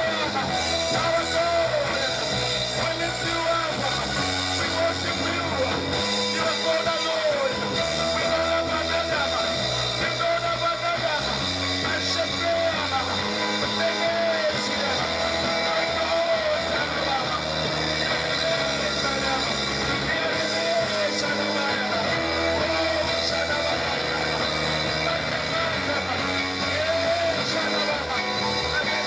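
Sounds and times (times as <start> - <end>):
church worship music: 0.0 - 29.0.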